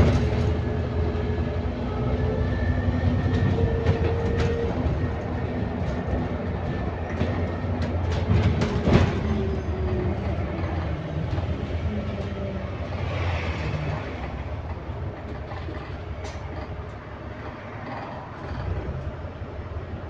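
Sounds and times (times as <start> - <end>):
bus engine: 0.0 - 20.0
road noise: 0.0 - 20.0.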